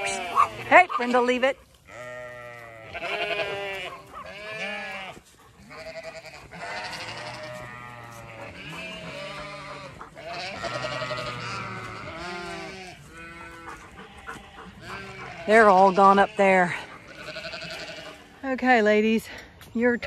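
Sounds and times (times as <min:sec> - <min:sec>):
sheep bleating: 0:00.0 - 0:18.4.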